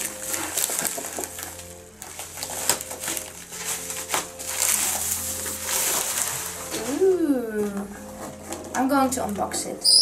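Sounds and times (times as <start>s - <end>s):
envelopes crinkling and rustling: 0.0s - 9.5s.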